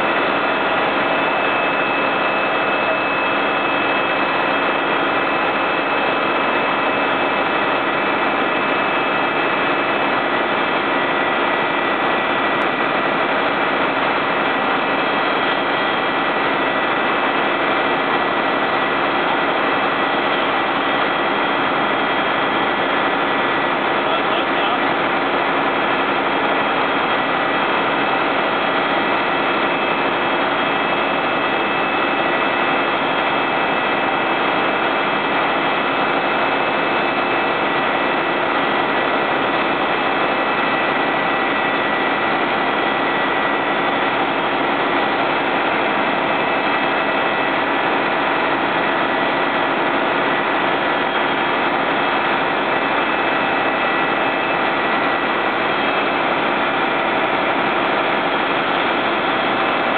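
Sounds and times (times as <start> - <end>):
diesel engine running: 0.0 - 59.9
faint steady whine: 0.0 - 59.9.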